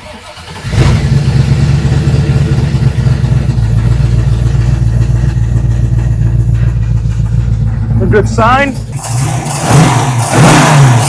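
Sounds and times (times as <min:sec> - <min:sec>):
car engine running: 0:00.0 - 0:11.0
exhaust popping: 0:00.0 - 0:11.0.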